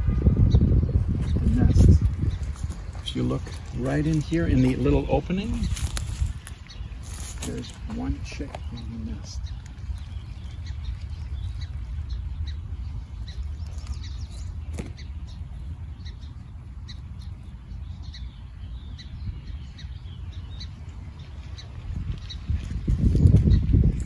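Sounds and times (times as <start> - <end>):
steady low rumble: 0.0 - 24.0
small birds chirping: 0.4 - 24.0.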